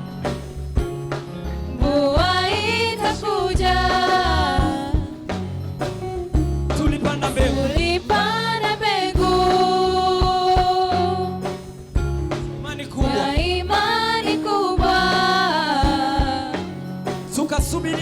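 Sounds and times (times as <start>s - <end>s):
bass and drums groove: 0.0s - 18.0s
melismatic singing: 1.6s - 11.9s, 12.5s - 18.0s.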